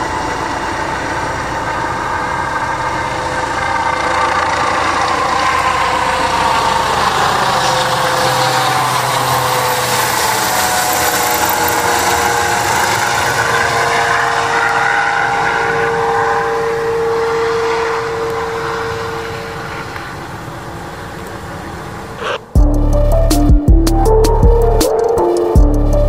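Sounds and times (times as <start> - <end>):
helicopter turbine and rotor noise: 0.0 - 23.0.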